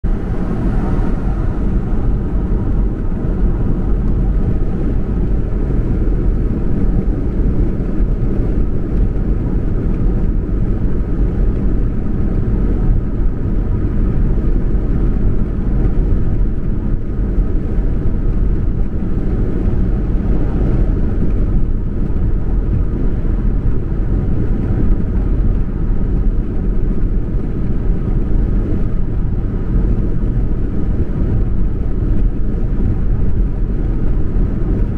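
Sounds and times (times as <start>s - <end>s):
car road noise: 0.0s - 34.9s.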